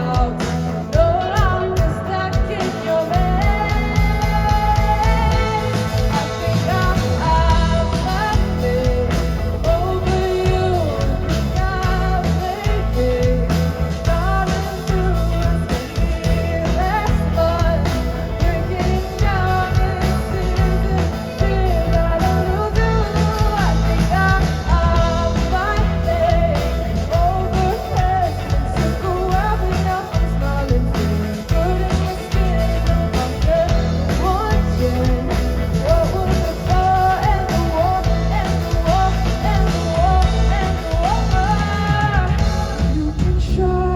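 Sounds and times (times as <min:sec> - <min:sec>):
bass guitar: 0:00.0 - 0:43.9
drum kit: 0:00.0 - 0:43.9
lead electric guitar: 0:00.0 - 0:43.9.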